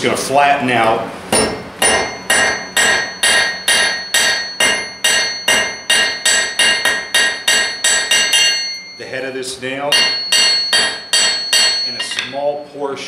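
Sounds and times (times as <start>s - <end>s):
hammer striking anvil: 1.3s - 9.2s, 9.9s - 12.6s.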